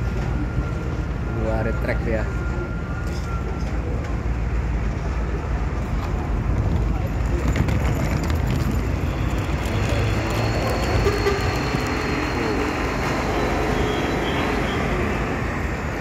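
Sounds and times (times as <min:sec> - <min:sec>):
diesel truck engine droning: 0:00.0 - 0:16.0.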